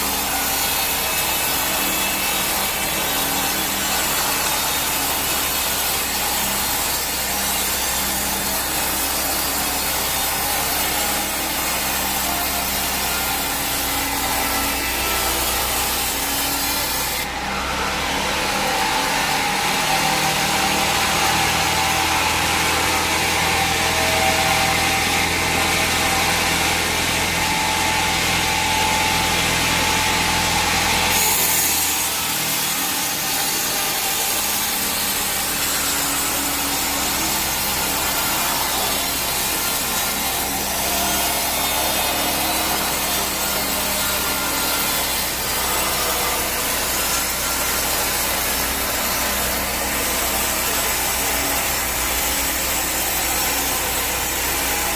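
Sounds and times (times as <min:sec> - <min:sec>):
powered saw cutting timber: 0:00.0 - 0:54.9.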